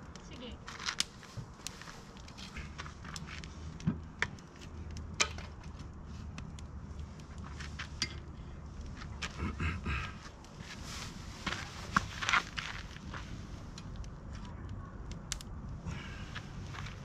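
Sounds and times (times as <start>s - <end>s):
steady low hum: 1.3s - 17.0s.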